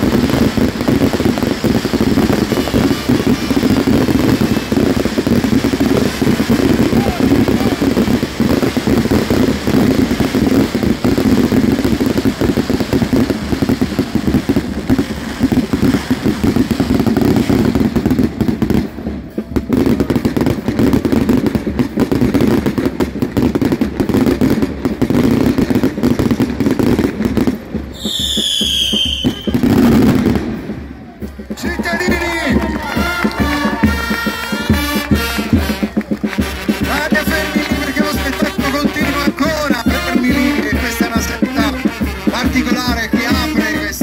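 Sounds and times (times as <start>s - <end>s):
firework whistle: 0.0s - 22.8s, 25.0s - 44.0s
fireworks crackling: 0.0s - 44.0s.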